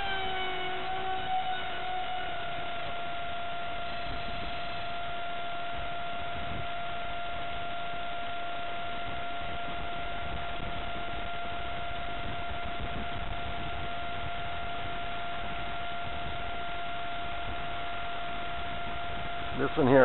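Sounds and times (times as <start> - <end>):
electric fan high whine: 0.0 - 20.0.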